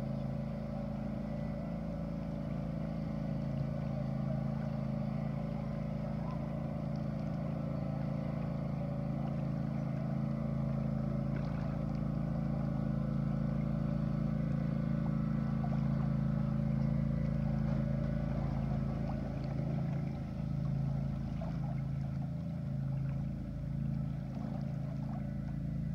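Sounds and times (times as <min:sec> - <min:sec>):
boat motor humming: 0:00.0 - 0:25.9.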